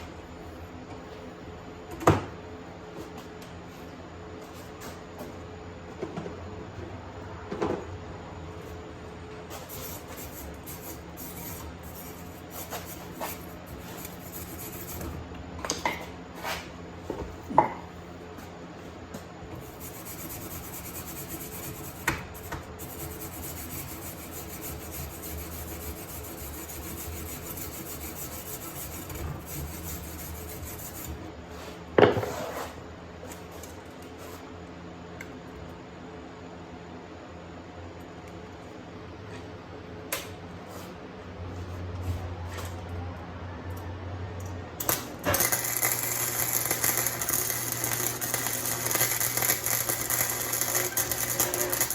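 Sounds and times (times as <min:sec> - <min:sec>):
steady hum: 0:00.0 - 0:51.9.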